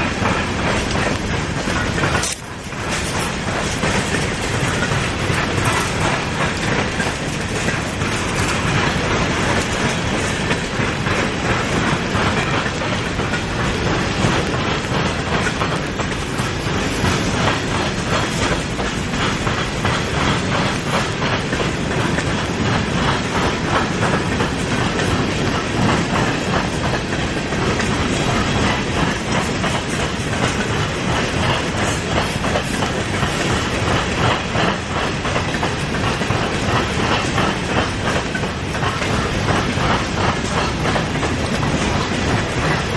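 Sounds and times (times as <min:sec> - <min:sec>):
freight train wheels clattering: 0:00.0 - 0:42.9.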